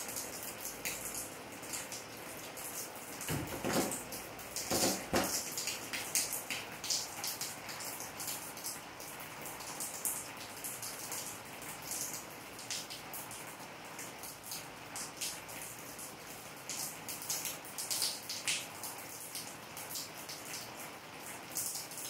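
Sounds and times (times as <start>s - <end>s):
raindrops pattering: 0.0s - 22.0s.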